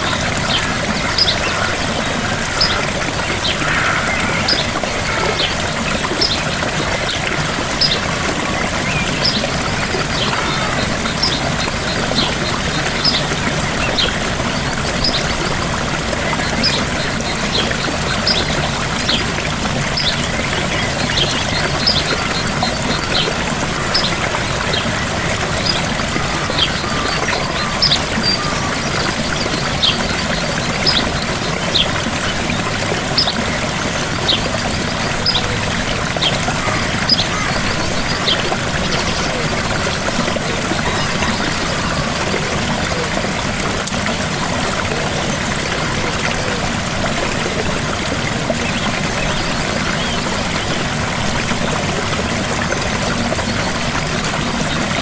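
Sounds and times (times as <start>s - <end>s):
small waterfall pouring: 0.0s - 55.0s.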